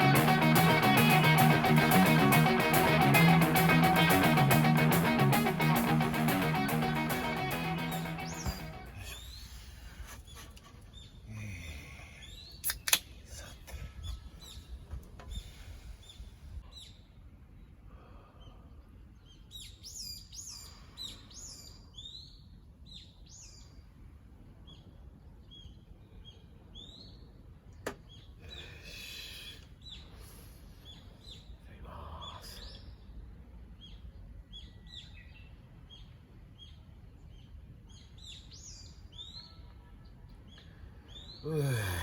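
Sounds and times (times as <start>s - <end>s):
small birds chirping: 0.0s - 24.0s, 24.6s - 42.0s.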